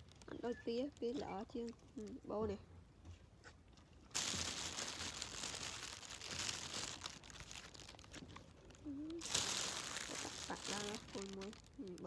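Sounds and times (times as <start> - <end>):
plastic bag crinkling: 0.0 - 2.3, 4.0 - 12.0.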